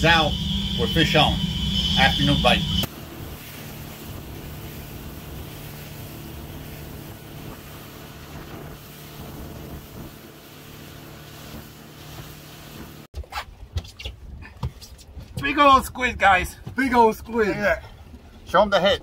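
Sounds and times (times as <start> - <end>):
motorboat engine humming: 0.0 - 13.7, 16.1 - 19.0
rushing wind and water: 0.0 - 19.0.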